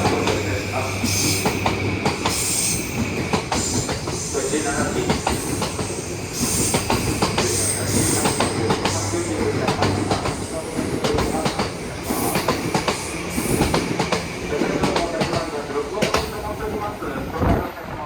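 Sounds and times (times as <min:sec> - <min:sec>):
train wheels clacking over rail joints: 0:00.0 - 0:16.5.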